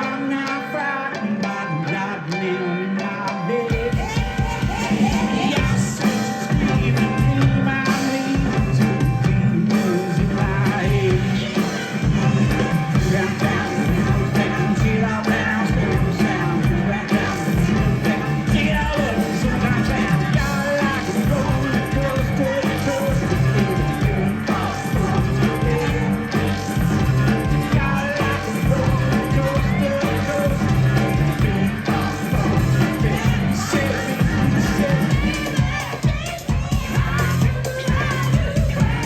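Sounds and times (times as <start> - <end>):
live rock band playing: 0.0 - 39.0
person singing: 0.0 - 39.0.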